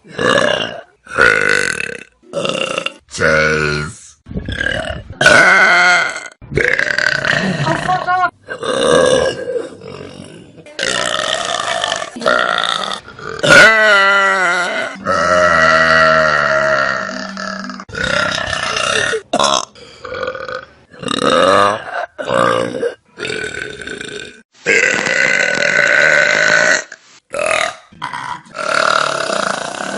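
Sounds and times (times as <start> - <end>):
loud burps: 0.0 - 29.9.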